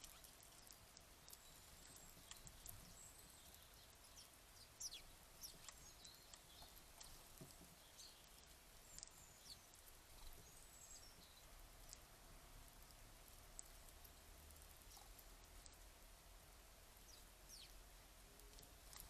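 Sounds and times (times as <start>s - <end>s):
low background hiss: 0.0s - 19.0s
small birds chirping: 0.0s - 19.0s.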